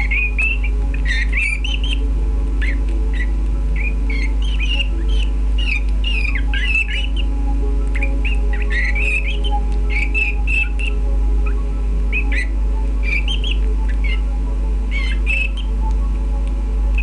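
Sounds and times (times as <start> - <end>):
canaries chirping: 0.0 - 16.0
steady low hum: 0.0 - 17.0.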